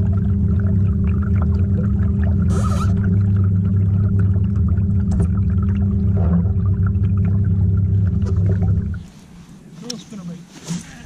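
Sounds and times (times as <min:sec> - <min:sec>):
trolling motor humming: 0:00.0 - 0:09.1
water splashing along hull: 0:00.0 - 0:11.0.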